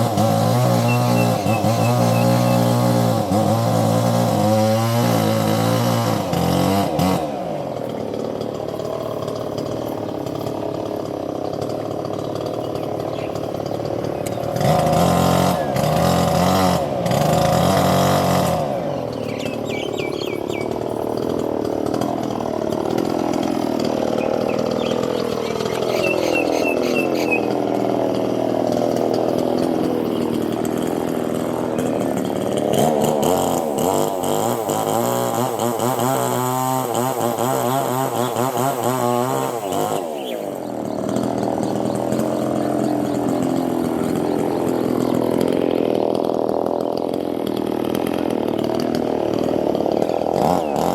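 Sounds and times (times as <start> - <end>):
small engine revving: 0.0 - 50.9.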